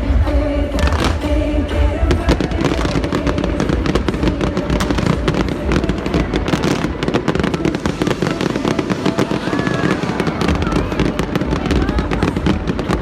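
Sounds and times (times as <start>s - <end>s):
fireworks crackling and banging: 0.8s - 13.0s.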